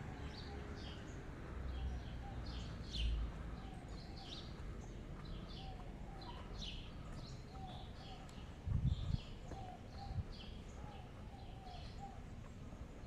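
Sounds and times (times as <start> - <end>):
low city rumble: 0.0 - 13.0
small birds chirping: 0.0 - 13.0.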